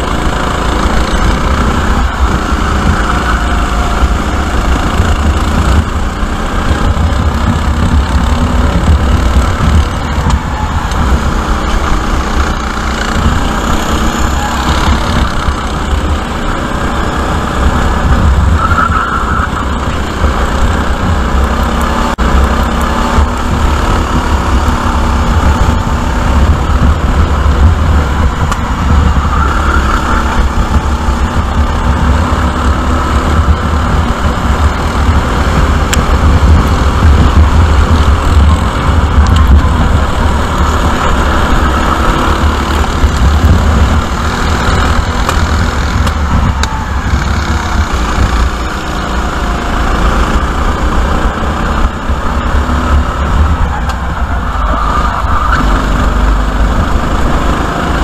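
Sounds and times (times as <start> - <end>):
kart engine racing: 0.0 - 58.0
wind rumble on microphone: 0.0 - 58.0.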